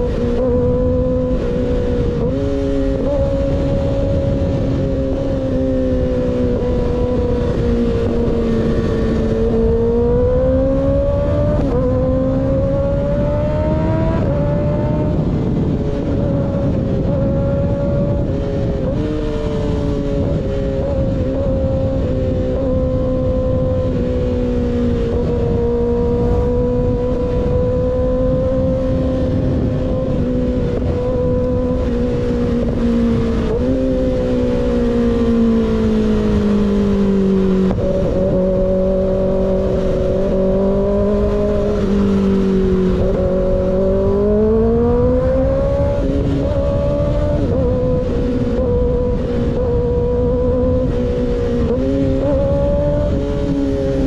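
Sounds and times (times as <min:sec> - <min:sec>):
motorcycle cruising: 0:00.0 - 0:54.0
wind rumble on microphone: 0:00.0 - 0:54.0.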